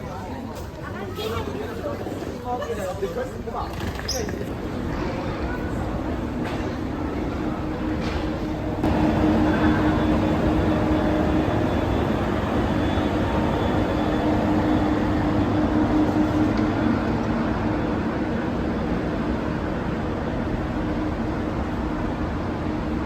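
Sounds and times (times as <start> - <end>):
train rumbling: 4.4 - 23.0.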